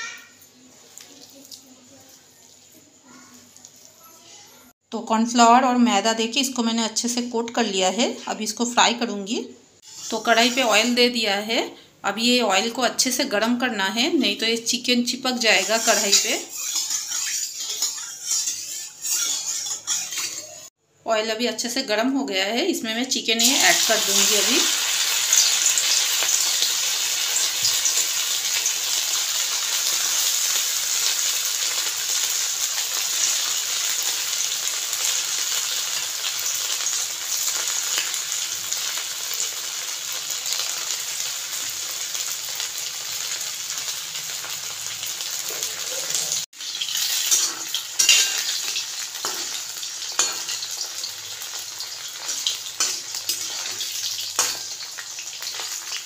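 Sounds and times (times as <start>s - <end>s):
chicken deep-frying in oil: 0.0s - 4.4s, 12.4s - 20.7s, 21.6s - 56.0s.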